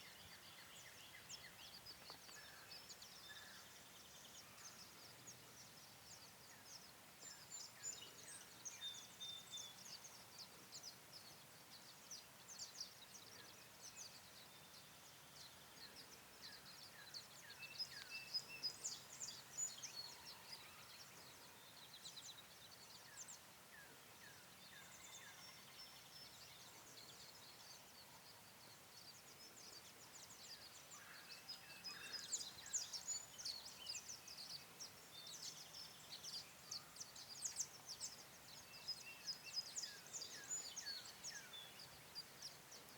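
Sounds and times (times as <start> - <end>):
open field ambience: 0.0 - 42.9
songbirds chirping and trilling: 0.0 - 42.9.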